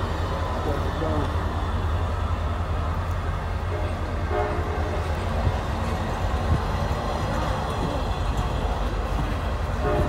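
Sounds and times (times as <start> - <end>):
train cars rumbling past: 0.0 - 10.0.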